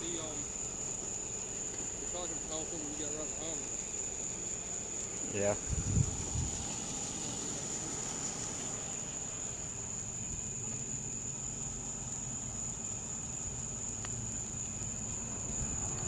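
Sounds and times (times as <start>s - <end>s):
insects chirring: 0.0s - 16.0s
low background rumble: 0.0s - 16.0s.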